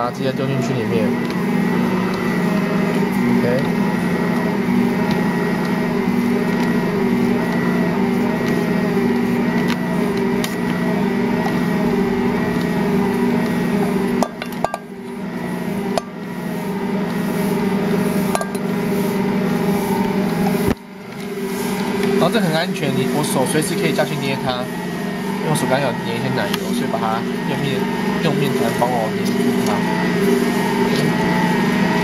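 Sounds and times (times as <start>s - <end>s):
stand mixer motor hum: 0.0s - 32.0s.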